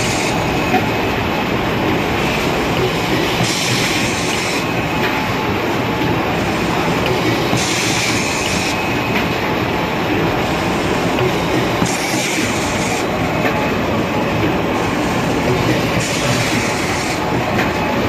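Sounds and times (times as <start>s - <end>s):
packing machine running: 0.0s - 18.0s.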